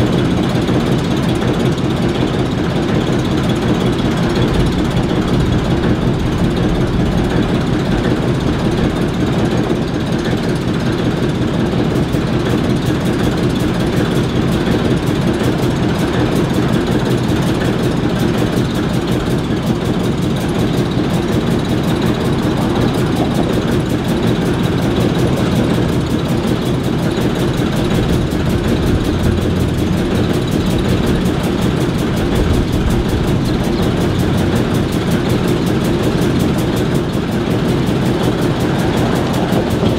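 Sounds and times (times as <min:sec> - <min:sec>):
diesel locomotives idling: 0:00.0 - 0:39.9.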